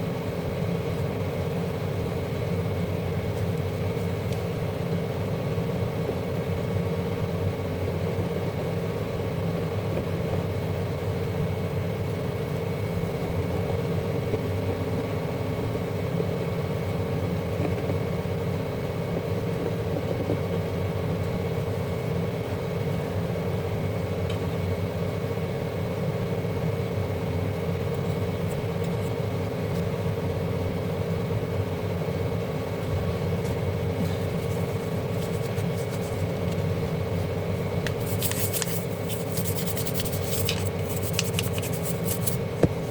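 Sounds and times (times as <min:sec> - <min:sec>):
steady mechanical hum: 0:00.0 - 0:42.9.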